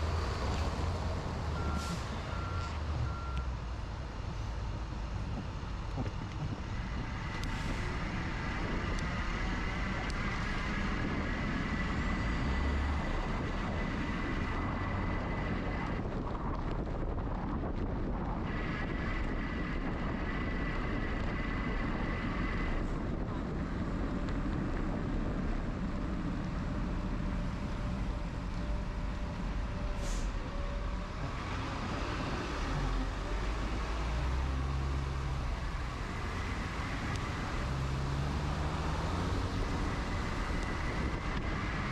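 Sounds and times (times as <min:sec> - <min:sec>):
street traffic: 0:00.0 - 0:41.9
wind rumbling on microphone: 0:00.0 - 0:41.9.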